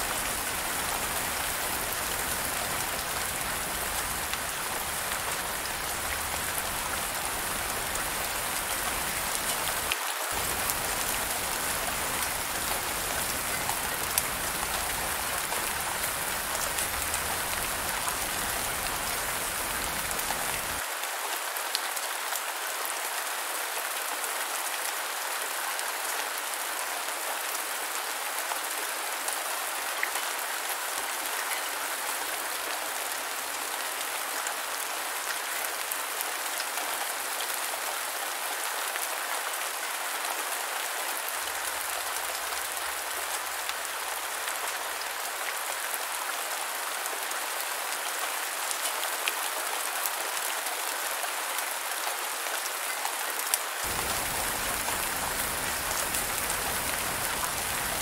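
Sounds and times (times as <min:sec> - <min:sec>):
heavy rain on water: 0:00.0 - 0:58.0.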